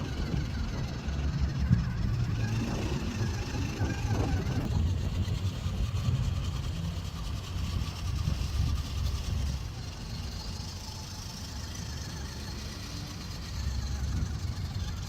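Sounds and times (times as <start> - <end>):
high whine of small electric motor: 0.0 - 15.0
low rumble of toy truck: 0.0 - 15.0.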